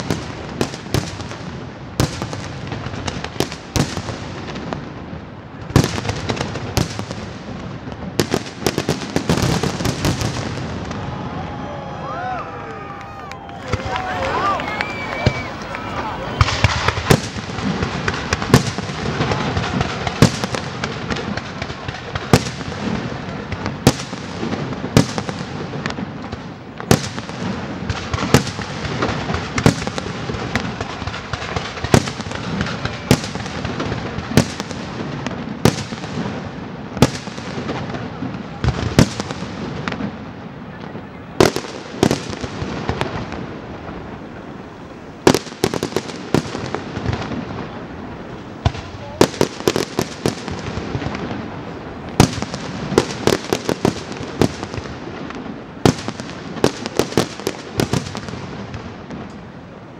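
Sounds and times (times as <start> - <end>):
fireworks crackling and hissing: 0.0 - 59.9.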